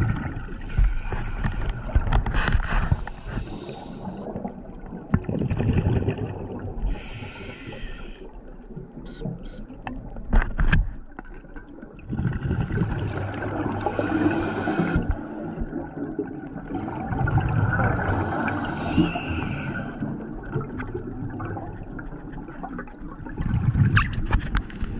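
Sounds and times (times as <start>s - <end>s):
underwater exhaled bubbles: 0.0s - 10.3s, 11.2s - 24.3s.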